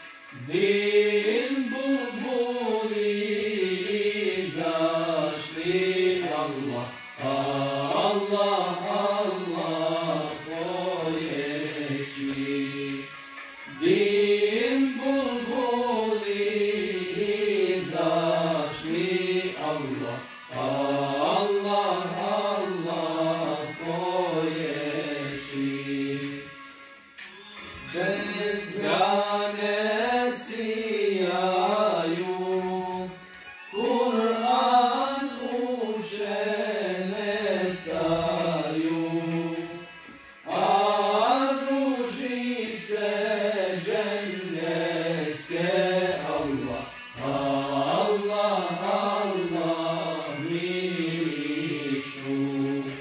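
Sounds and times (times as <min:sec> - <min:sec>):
man singing devotional song: 0:00.0 - 0:26.9, 0:27.6 - 0:53.0.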